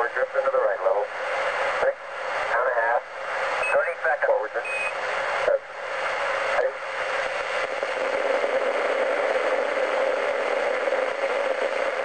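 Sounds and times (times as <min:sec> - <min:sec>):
radio hiss and static: 0:00.0 - 0:12.0.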